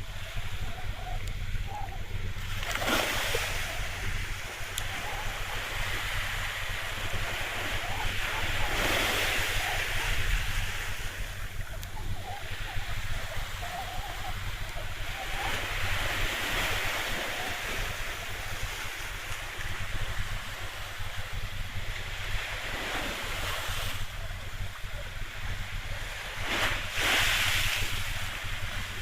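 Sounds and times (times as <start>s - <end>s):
sea waves washing: 0.0s - 29.0s
steady low hum: 0.0s - 29.0s
wind buffeting microphone: 0.0s - 29.0s.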